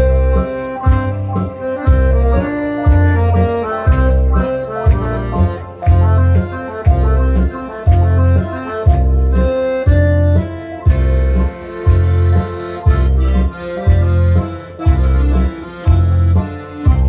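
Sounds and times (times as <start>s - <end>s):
folk dance melody: 0.0s - 17.0s
heavy bass beat: 0.0s - 17.0s.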